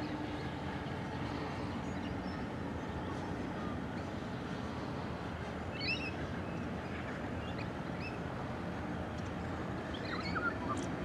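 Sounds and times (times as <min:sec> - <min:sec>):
small birds chirping: 0:00.0 - 0:05.0, 0:05.7 - 0:08.3, 0:09.2 - 0:11.0
steady low rumble: 0:00.0 - 0:11.0.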